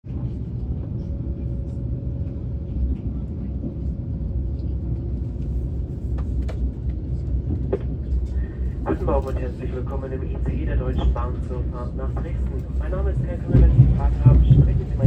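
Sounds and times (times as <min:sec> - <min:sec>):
train rumbling from inside: 0:00.0 - 0:15.0.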